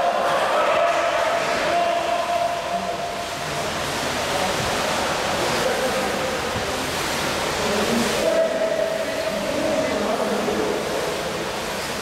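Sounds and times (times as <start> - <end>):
water splashing in a pool: 0.0 - 12.0.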